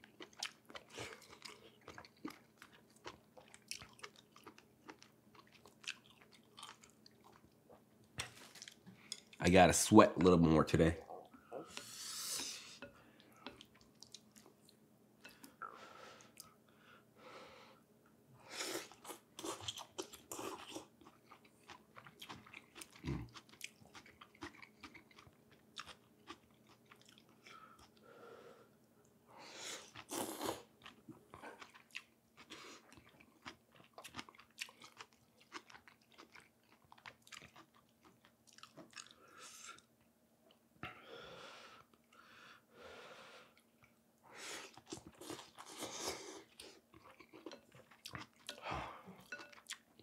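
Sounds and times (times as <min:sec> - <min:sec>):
person chewing food: 0:00.0 - 0:09.4, 0:11.0 - 0:16.6, 0:18.6 - 0:28.1, 0:29.6 - 0:40.6, 0:43.5 - 0:50.0.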